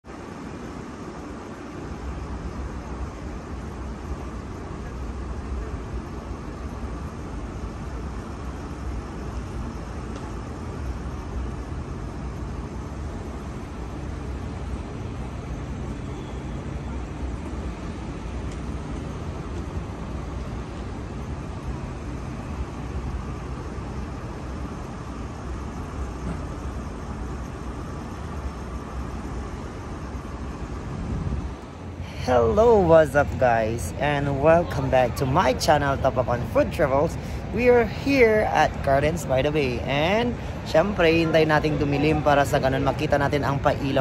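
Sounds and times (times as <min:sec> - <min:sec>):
low city rumble: 0:00.0 - 0:44.0.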